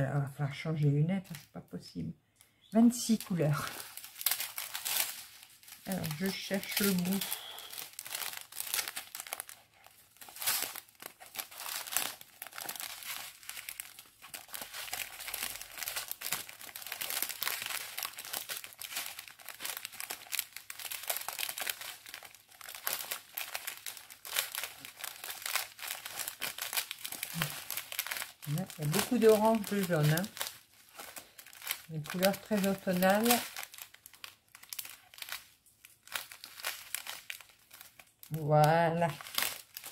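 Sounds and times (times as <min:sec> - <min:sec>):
plastic sachets crinkling: 0:02.4 - 0:39.9.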